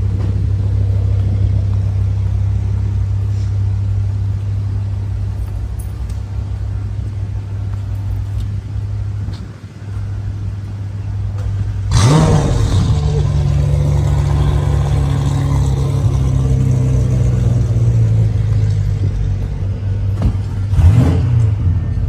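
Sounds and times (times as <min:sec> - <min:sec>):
car engine and road drone: 0:00.0 - 0:22.0.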